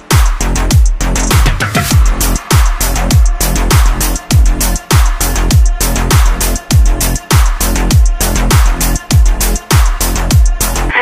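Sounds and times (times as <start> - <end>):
background music with a beat: 0.0 - 10.9
deep kick drum: 0.0 - 10.9.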